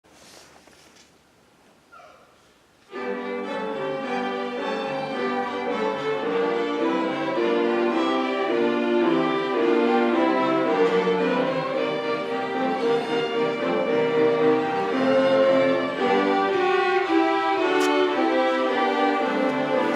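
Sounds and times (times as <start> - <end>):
orchestra playing: 2.9 - 19.9.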